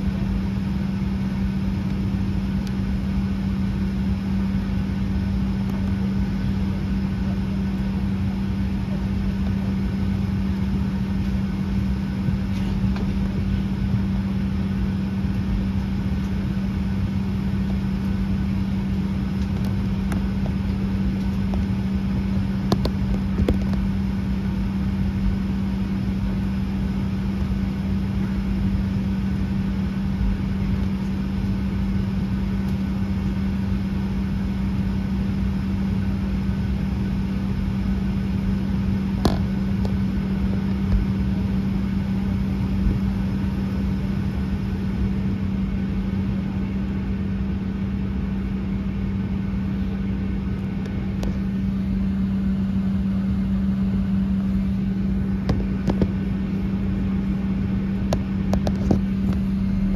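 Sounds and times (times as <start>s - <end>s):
aircraft cabin low hum: 0.0s - 59.9s.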